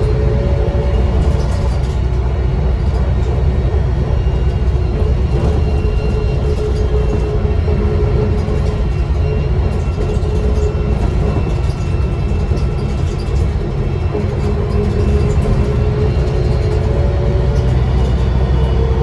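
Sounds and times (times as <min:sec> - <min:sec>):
bus engine rumble: 0:00.0 - 0:19.0
steady whine: 0:00.0 - 0:19.0.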